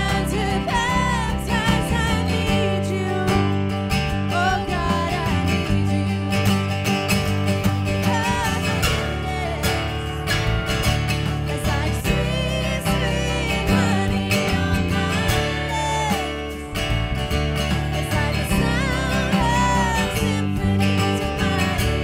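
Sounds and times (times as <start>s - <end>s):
person singing melody: 0.0s - 6.8s, 7.9s - 10.5s, 11.2s - 22.0s
acoustic guitar: 0.0s - 22.0s
steady bass: 0.0s - 22.0s.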